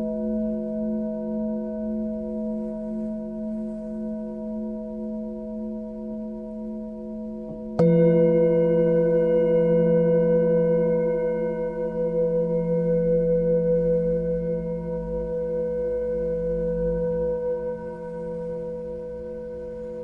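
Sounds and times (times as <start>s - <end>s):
singing bowl ringing: 0.0s - 20.0s.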